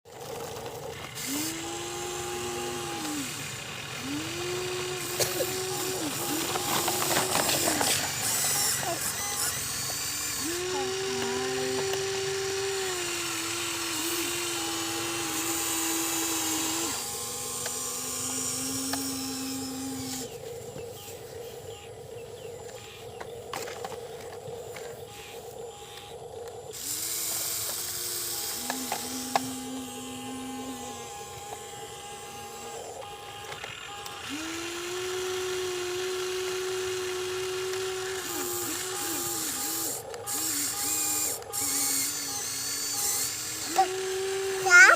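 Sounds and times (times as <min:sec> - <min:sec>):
small electric motors whining: 0:00.1 - 0:44.9.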